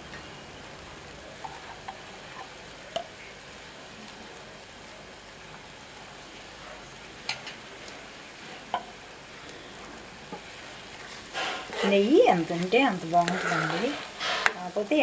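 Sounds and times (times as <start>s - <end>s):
ghee sizzling in a pan: 0.0s - 15.0s.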